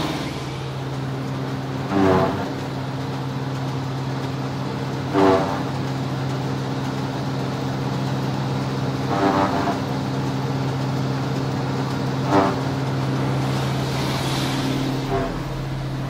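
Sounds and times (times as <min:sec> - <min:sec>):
forage harvester droning: 0:00.0 - 0:16.0.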